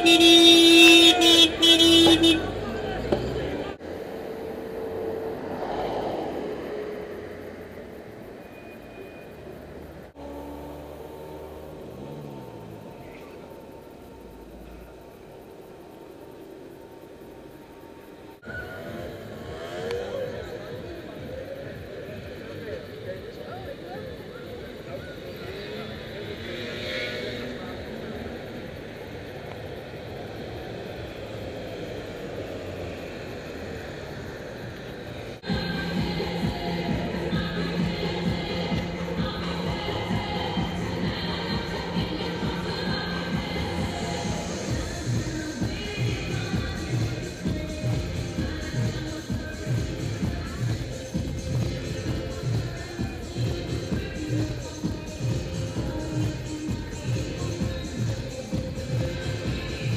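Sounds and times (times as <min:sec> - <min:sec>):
distant vehicle rumble: 0:00.0 - 0:57.0.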